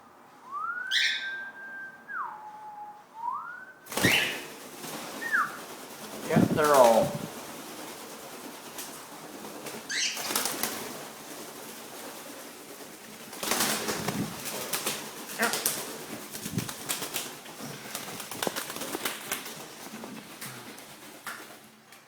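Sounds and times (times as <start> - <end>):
cockatiels flapping wings: 3.8 - 22.0.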